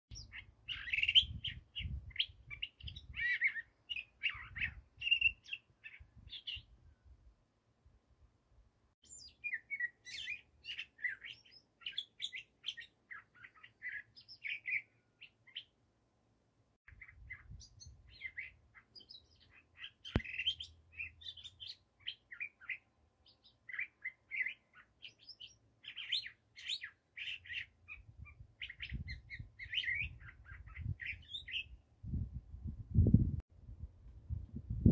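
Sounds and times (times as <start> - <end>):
bird chirping and chattering: 0.1 - 6.6, 9.1 - 15.7, 16.9 - 31.7.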